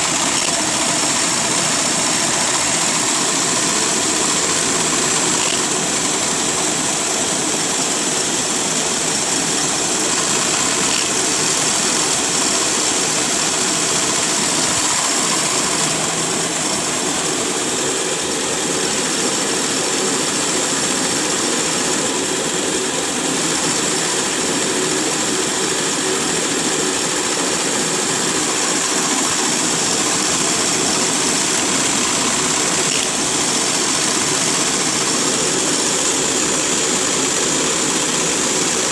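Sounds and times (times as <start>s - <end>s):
pneumatic engine running: 0.0s - 38.9s.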